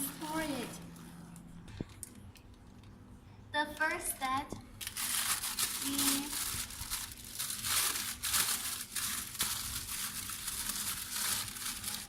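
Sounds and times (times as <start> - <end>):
plastic packaging crinkling: 0.0 - 3.0, 4.8 - 12.0.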